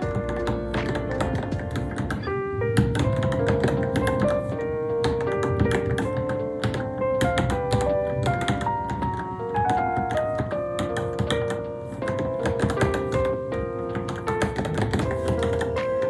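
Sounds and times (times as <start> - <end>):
background music with melody: 0.0 - 16.0
mechanical keyboard typing: 0.0 - 16.0.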